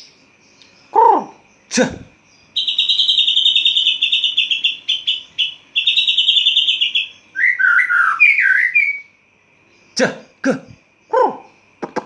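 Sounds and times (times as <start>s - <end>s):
songbird singing trills and whistles: 0.0s - 10.0s.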